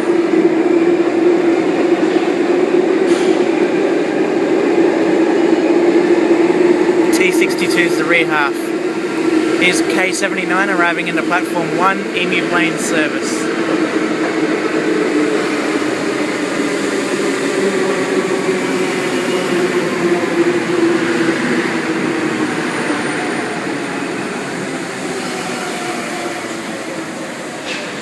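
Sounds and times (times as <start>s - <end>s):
train low whine: 0.0s - 28.0s.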